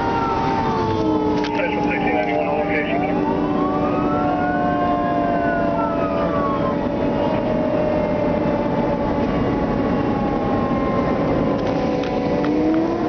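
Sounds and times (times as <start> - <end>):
engine and road drone: 0.0 - 13.0
fire engine siren: 0.0 - 13.0.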